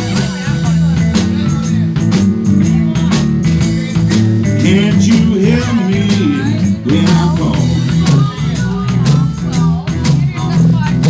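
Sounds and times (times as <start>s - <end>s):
blues band playing: 0.0s - 11.0s
bending guitar lead line: 1.0s - 10.0s.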